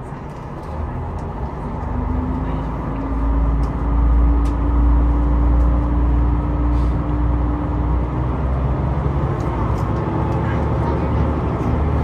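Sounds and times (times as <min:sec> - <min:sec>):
train low rumble and hum: 0:00.0 - 0:12.0.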